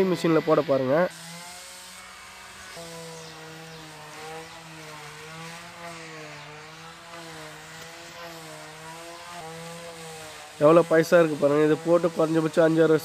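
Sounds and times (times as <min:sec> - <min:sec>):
sander motor hum: 0:00.0 - 0:13.0
sandpaper hissing on wood: 0:00.0 - 0:13.0.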